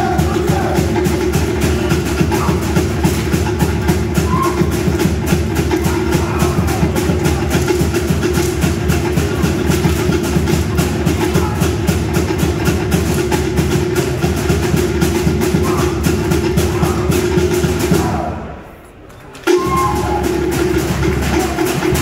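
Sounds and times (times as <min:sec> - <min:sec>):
fast driving drumbeat: 0:00.0 - 0:18.3, 0:19.5 - 0:22.0.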